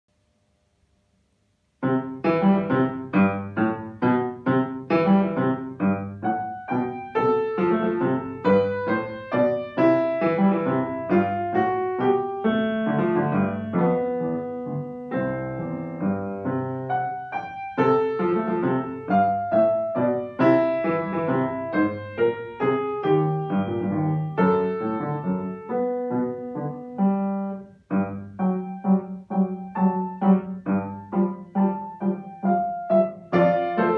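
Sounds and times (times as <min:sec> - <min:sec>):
solo grand piano piece: 0:01.3 - 0:33.9.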